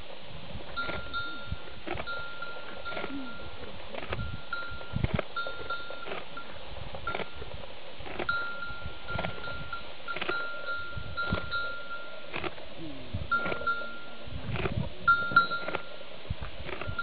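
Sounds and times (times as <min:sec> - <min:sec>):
thin high ringing tone: 0:00.7 - 0:07.6, 0:08.2 - 0:12.5, 0:13.3 - 0:14.4, 0:15.0 - 0:16.2, 0:16.8 - 0:17.0.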